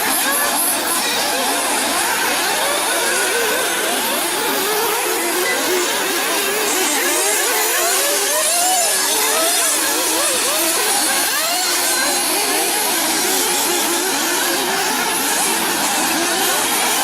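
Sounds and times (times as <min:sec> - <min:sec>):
model buggy engines buzzing: 0:00.0 - 0:17.0.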